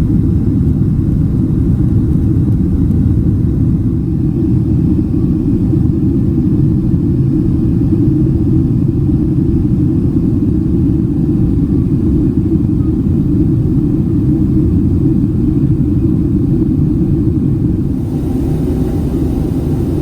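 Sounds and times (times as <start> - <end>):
airliner cabin engine rumble: 0.0 - 20.0.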